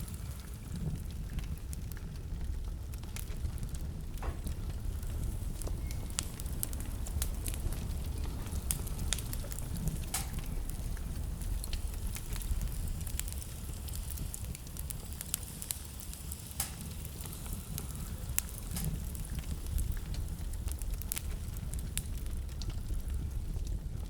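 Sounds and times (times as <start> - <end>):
low rumble of fire: 0.0 - 24.0
wood fire crackling and popping: 0.0 - 24.0.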